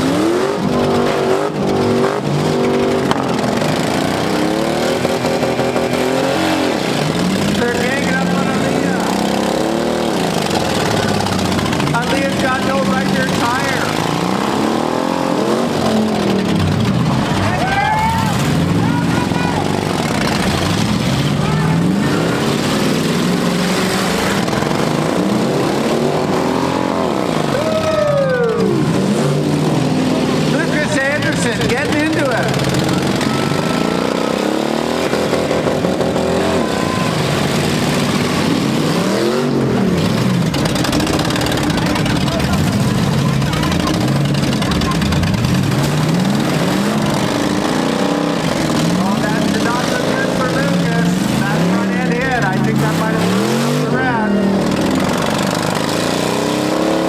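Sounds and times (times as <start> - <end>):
truck engines revving hard: 0.0 - 57.0.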